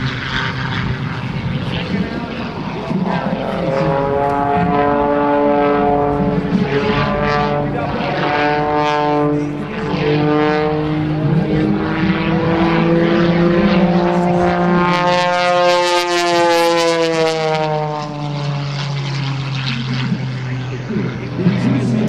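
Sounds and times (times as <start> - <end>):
propeller plane engine: 0.0 - 22.0.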